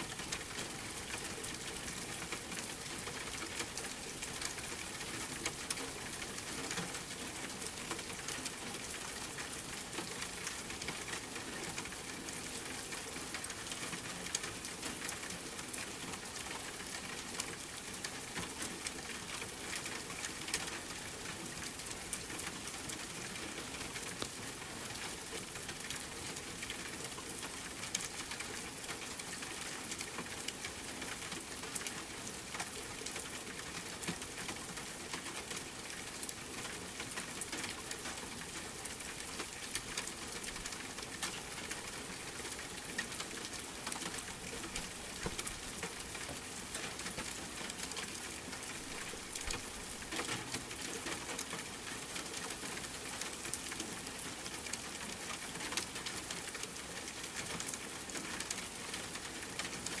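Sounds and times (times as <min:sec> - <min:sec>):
rain pattering: 0:00.0 - 1:00.0.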